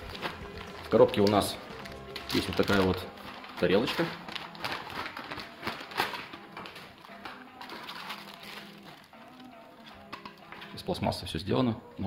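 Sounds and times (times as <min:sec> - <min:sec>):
plastic bag rustling and crinkling: 0:00.0 - 0:10.8.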